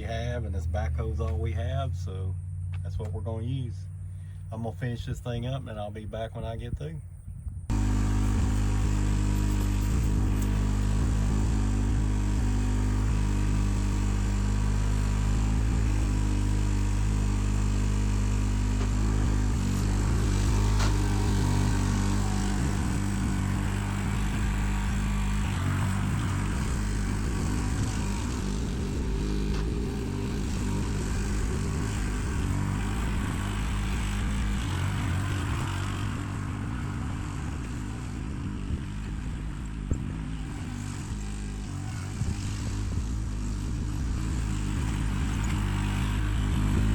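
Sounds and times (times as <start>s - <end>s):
backhoe engine running: 0.0s - 5.9s, 7.6s - 46.9s.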